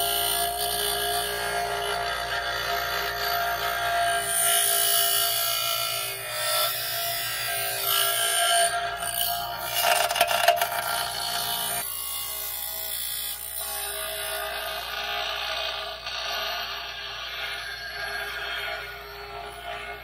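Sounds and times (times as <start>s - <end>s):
bench grinder grinding steel: 0.0s - 20.0s.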